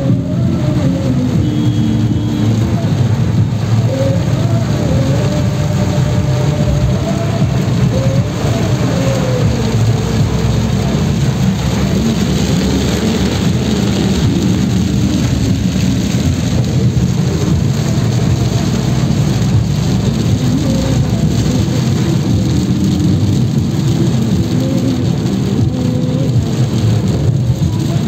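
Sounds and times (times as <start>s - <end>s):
engine and tyres rumbling: 0.0s - 28.0s
heavy rain on car windshield: 0.0s - 28.0s.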